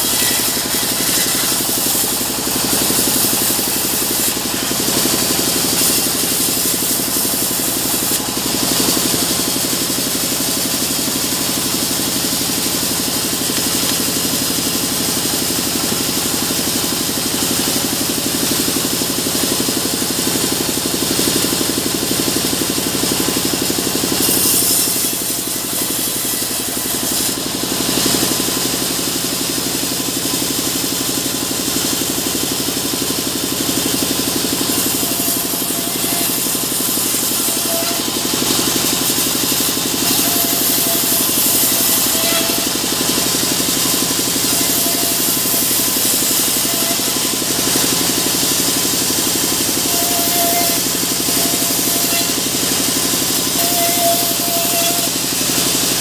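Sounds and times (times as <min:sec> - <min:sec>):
saw blade hissing through log: 0:00.0 - 0:56.0
sawmill motor drone: 0:00.0 - 0:56.0.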